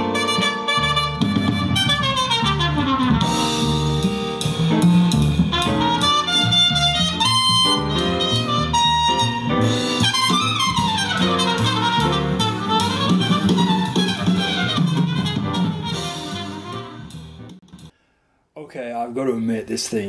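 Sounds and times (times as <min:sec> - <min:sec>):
music with bass and drums: 0:00.0 - 0:17.9.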